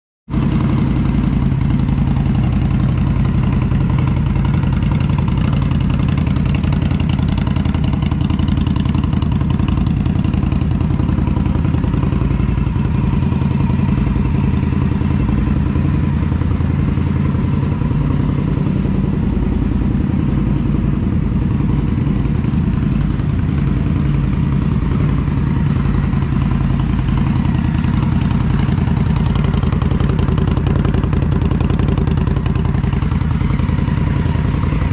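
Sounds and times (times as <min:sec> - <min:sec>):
motorcycle engine idling: 0:00.3 - 0:34.9.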